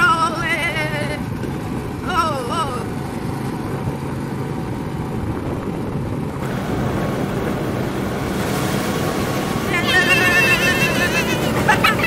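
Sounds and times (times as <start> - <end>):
go-kart engine: 0.0 - 12.0
wind rush on microphone: 0.0 - 12.0.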